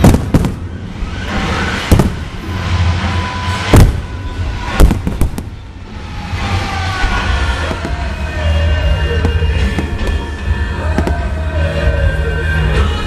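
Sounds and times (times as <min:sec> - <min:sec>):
fireworks bursting with sharp bangs: 0:00.0 - 0:13.0
music playing: 0:00.0 - 0:13.0.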